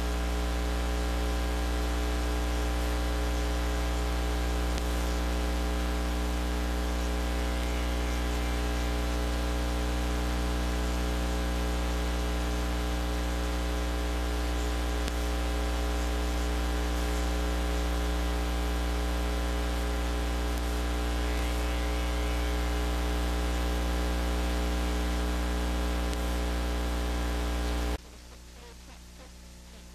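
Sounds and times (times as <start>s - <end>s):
constant hiss: 0.0s - 29.9s
electrical mains hum: 0.0s - 29.9s.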